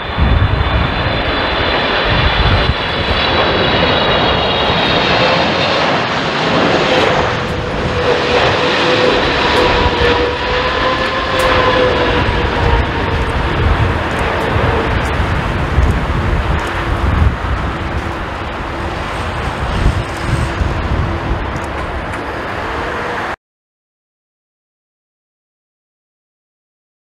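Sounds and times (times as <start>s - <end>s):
jet engines with fan whine: 0.0s - 23.4s
wind buffeting microphone: 0.0s - 23.4s.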